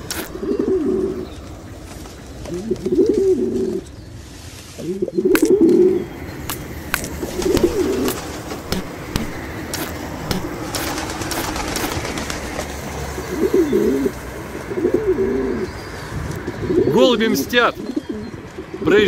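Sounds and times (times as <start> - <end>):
pigeons cooing: 0.0 - 4.1, 4.7 - 19.0
passing car traffic: 0.0 - 19.0.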